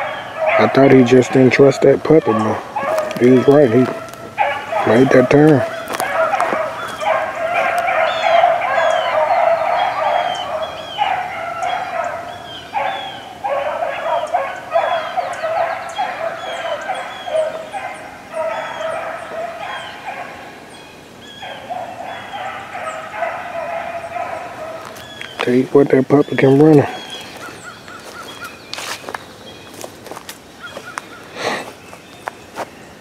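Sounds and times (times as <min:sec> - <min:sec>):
hounds baying and barking: 0:00.0 - 0:31.8.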